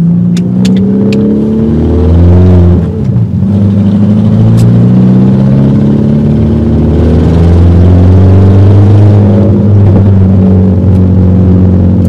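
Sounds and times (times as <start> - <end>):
car engine with deep exhaust drone: 0.0 - 12.0.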